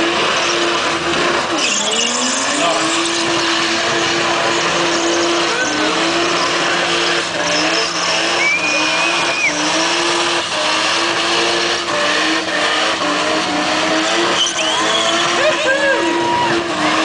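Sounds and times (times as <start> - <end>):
engine revving high: 0.0 - 17.0
tyre squeal: 1.5 - 17.0.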